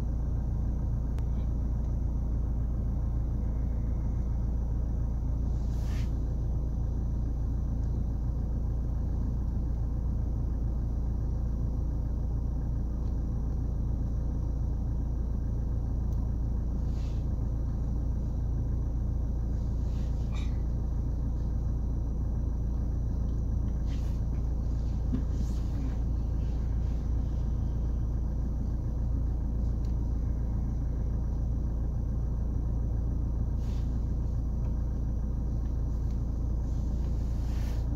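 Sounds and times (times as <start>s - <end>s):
car cabin rumble: 0.0s - 37.9s.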